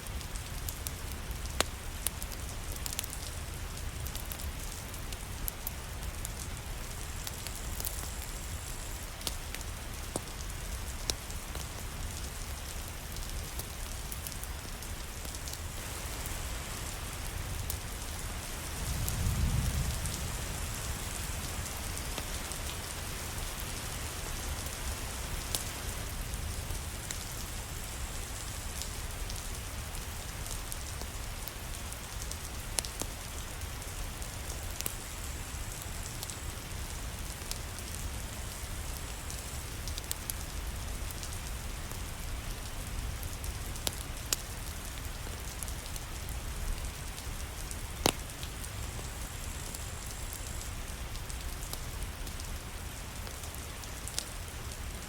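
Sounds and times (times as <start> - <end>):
rain hissing: 0.3 - 55.0.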